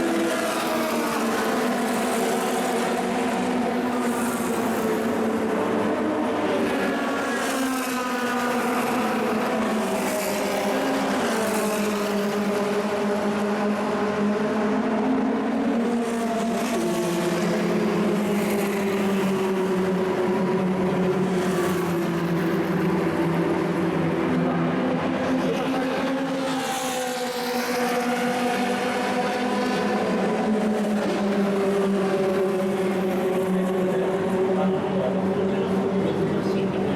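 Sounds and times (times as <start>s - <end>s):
racing car engines at speed: 0.0s - 36.9s.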